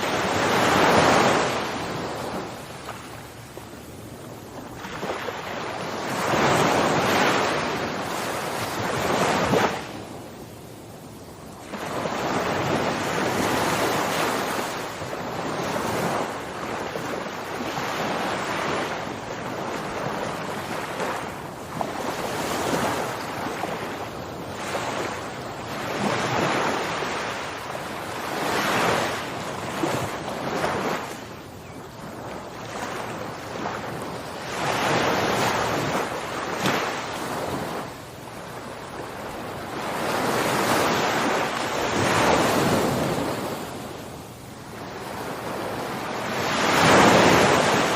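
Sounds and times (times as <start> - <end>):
waves washing onto shore: 0.0 - 47.9.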